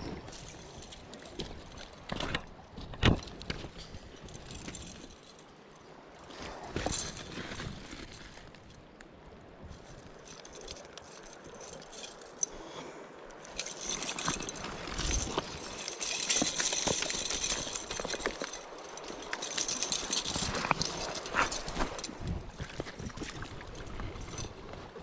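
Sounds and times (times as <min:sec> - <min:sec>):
metal chain clinking: 0:00.2 - 0:02.5, 0:03.3 - 0:08.9, 0:09.7 - 0:12.7, 0:13.3 - 0:24.6.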